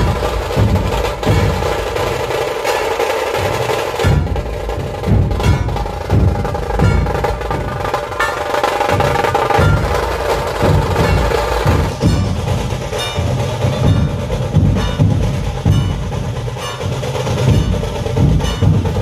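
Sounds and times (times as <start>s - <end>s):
barrel drums beating: 0.0s - 19.0s
rattling drum roll: 0.0s - 19.0s.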